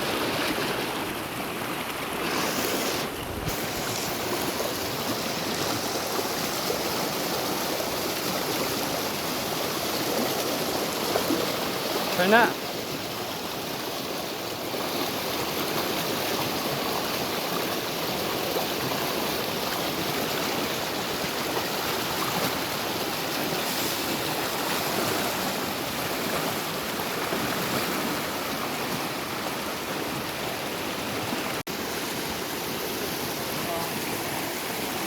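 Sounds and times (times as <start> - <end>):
river running over stones: 0.0 - 35.0.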